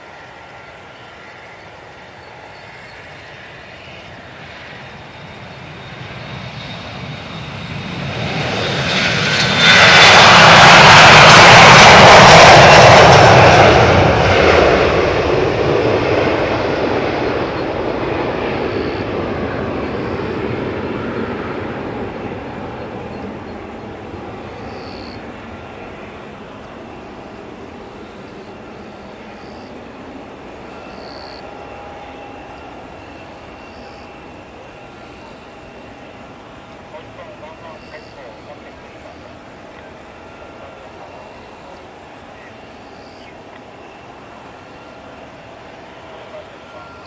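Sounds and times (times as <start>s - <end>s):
jet engines passing by: 0.0s - 47.0s.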